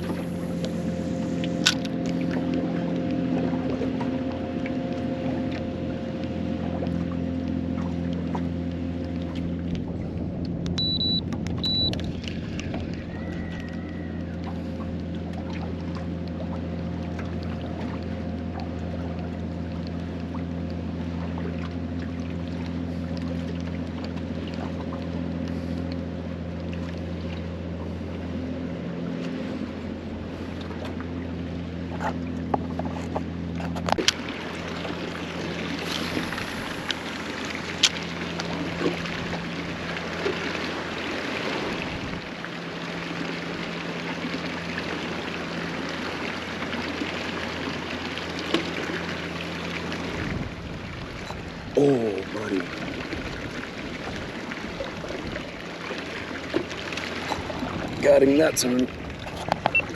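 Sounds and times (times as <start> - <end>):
boat motor humming: 0.0 - 59.9.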